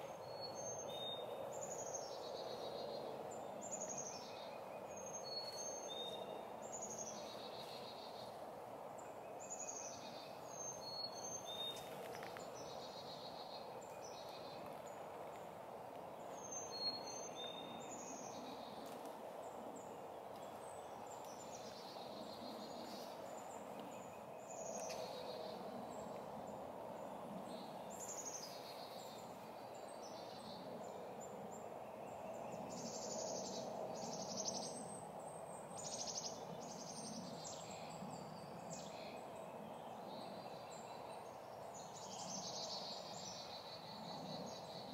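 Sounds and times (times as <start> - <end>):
birds singing: 0.0 - 15.4, 16.0 - 44.9.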